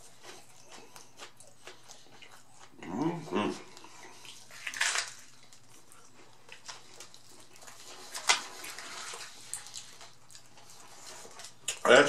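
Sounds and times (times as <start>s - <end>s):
chewing crunchy taco shell: 0.0s - 12.0s.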